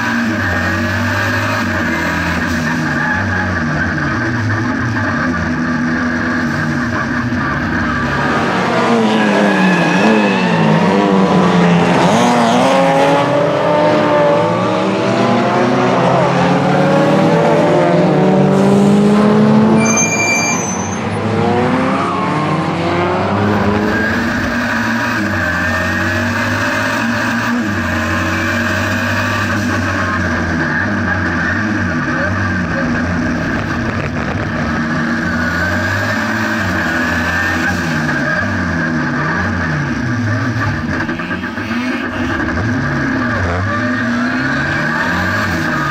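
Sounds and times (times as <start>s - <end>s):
race car engines passing: 0.0s - 45.9s.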